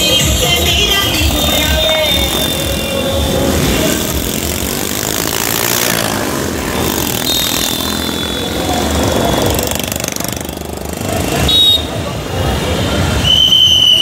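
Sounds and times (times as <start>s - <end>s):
motorcycles and scooters passing: 0.0s - 13.3s.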